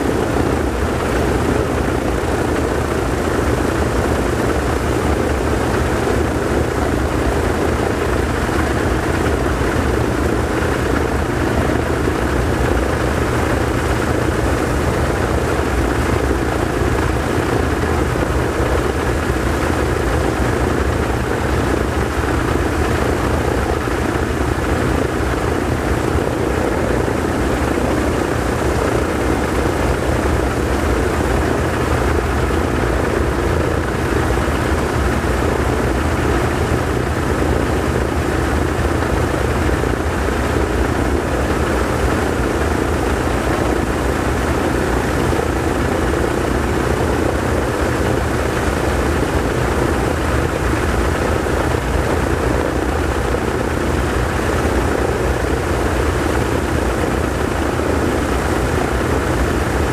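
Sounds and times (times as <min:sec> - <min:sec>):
aircraft propeller engines running: 0:00.0 - 0:59.9.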